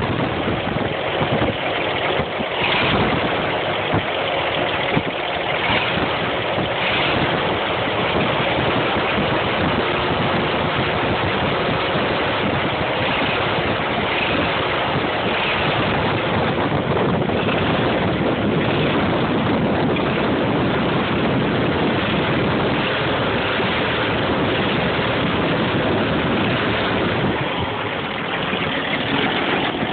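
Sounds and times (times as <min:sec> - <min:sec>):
truck engine running with knock: 0:00.0 - 0:29.9.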